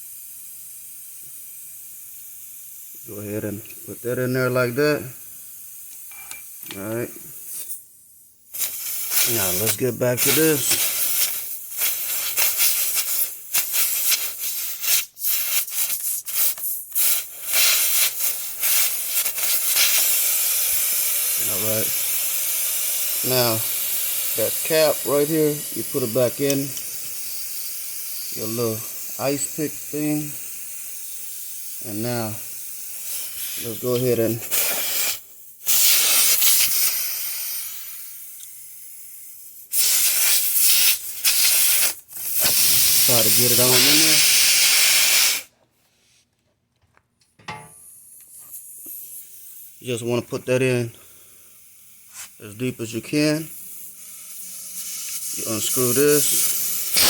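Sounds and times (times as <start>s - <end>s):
air hissing from tire: 0.0s - 3.4s, 5.1s - 7.8s, 8.5s - 45.5s, 47.8s - 49.8s, 51.0s - 57.0s.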